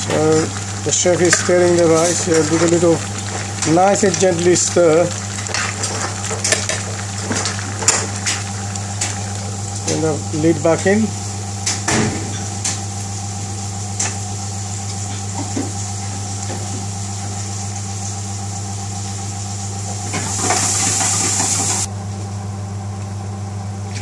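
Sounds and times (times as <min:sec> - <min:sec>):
gas hob hum and hiss: 0:00.0 - 0:24.0.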